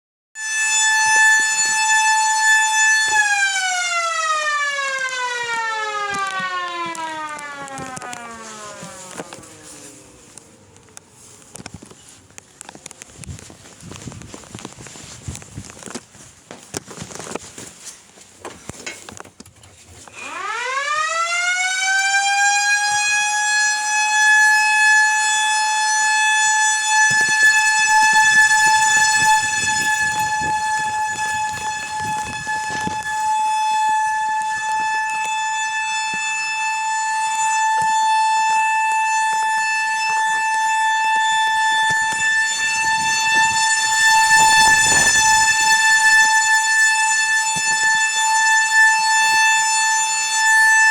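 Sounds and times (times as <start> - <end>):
outdoor warning siren: 0.4 - 50.9.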